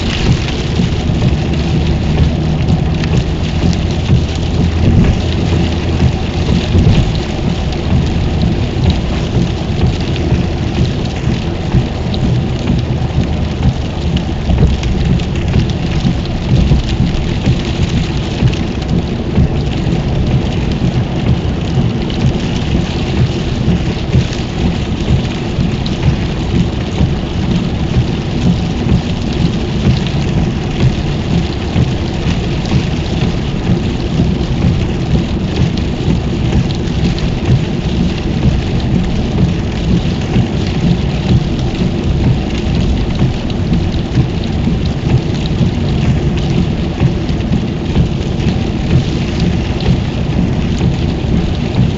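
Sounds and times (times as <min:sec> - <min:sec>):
rain on a car roof: 0:00.0 - 0:51.9
tyres rumbling on wet road: 0:00.0 - 0:51.9.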